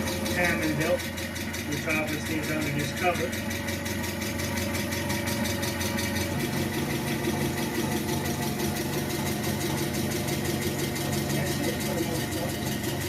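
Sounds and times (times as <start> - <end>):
forklift engine idling: 0.0 - 13.0.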